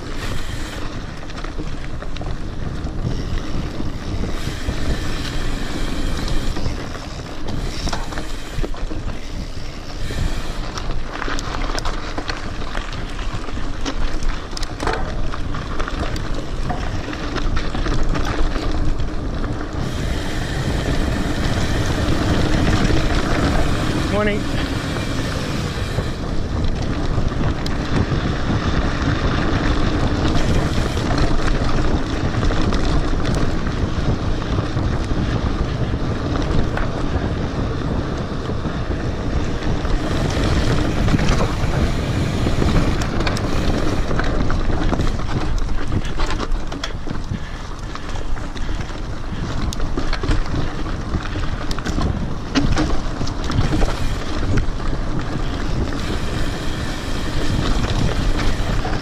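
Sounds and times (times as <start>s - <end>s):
bike knocks and rattles: 0.0s - 59.0s
tyres rumbling on dirt: 0.0s - 59.0s
wind rushing over microphone: 0.0s - 59.0s.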